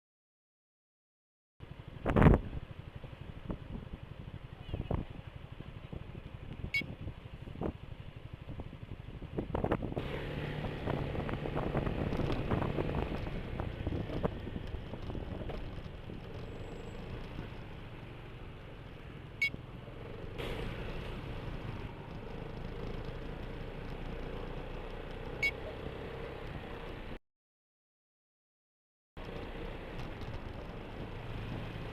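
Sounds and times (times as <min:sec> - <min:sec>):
road and traffic noise: 0:01.6 - 0:27.2, 0:29.2 - 0:31.9
scooter engine running: 0:01.7 - 0:27.2, 0:29.2 - 0:31.9.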